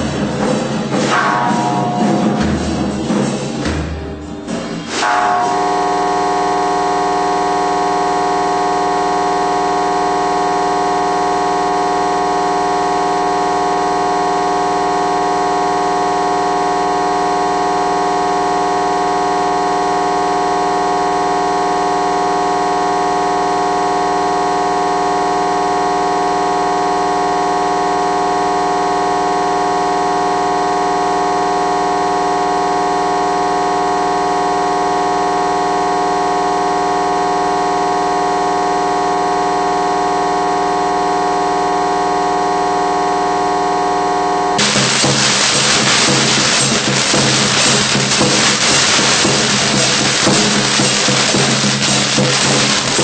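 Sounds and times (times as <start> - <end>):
steady drone of held tones: 0.0 - 53.0.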